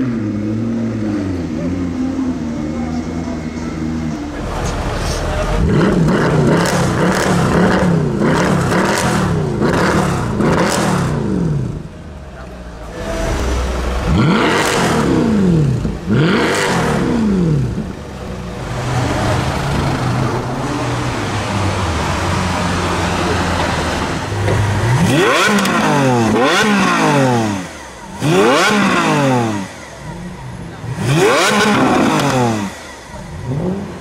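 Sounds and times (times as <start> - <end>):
car engine idling: 0.0 - 34.0
car engine revving: 0.0 - 34.0.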